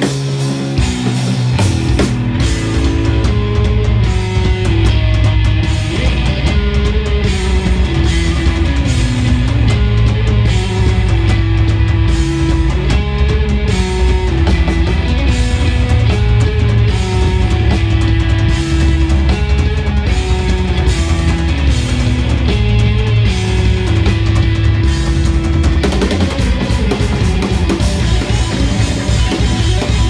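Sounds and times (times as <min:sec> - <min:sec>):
bass guitar: 0:00.0 - 0:30.0
drum kit with cymbals: 0:00.0 - 0:30.0
electric guitar melody: 0:00.0 - 0:30.0.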